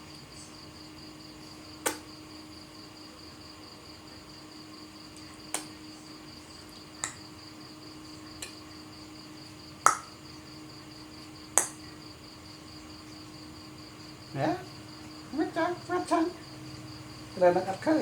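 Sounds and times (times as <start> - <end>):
pulsing insect chirr: 0.0 - 18.0.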